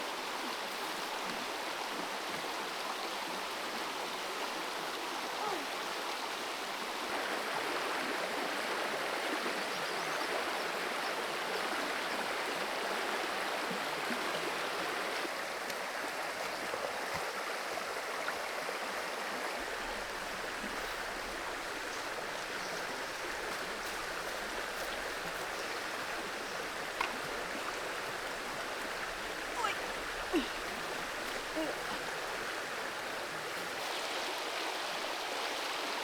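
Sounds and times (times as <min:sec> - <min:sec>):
creek water over rocks: 0:00.0 - 0:36.0.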